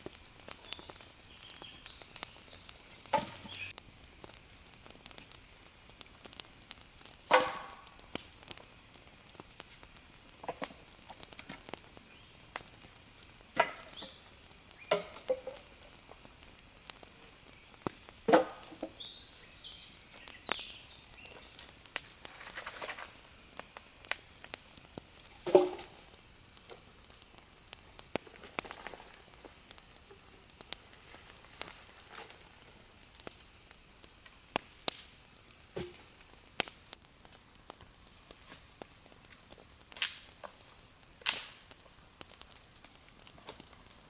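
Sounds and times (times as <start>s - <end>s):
crackles and clicks: 0.0s - 44.0s.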